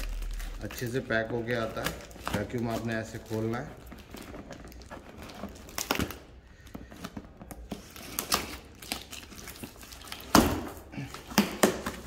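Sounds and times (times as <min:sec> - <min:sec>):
tape crackling: 0:00.0 - 0:12.0.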